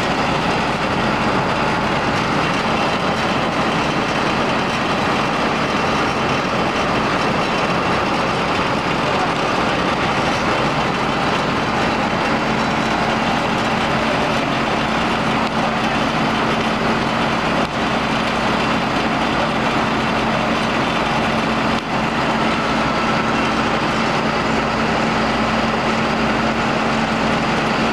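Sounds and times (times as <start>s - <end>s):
combine harvester running: 0.0s - 27.9s.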